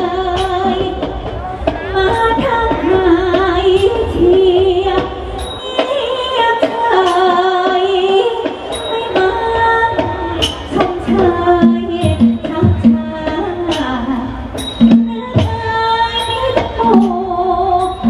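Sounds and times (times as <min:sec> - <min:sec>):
instrumental accompaniment: 0:00.0 - 0:18.0
percussion strikes: 0:00.0 - 0:18.0
woman singing with vibrato: 0:00.0 - 0:18.0.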